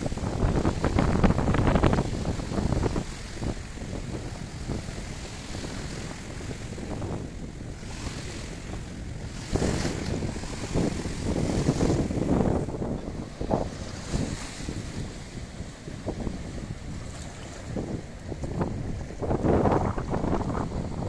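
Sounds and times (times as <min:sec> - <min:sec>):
rush of water: 0:00.0 - 0:21.0
surf washing: 0:00.0 - 0:21.0
wind buffeting microphone: 0:00.0 - 0:21.0.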